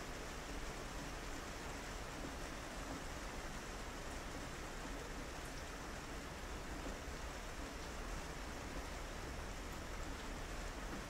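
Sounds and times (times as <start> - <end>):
rain on a window: 0.0 - 11.0.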